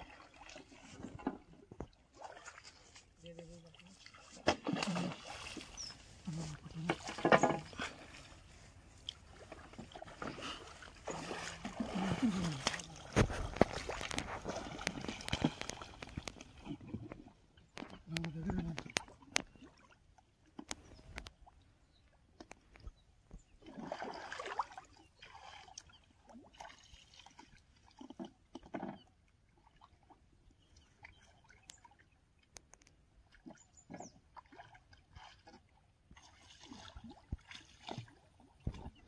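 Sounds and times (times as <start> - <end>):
water sloshing and splashing: 0.0 - 39.0.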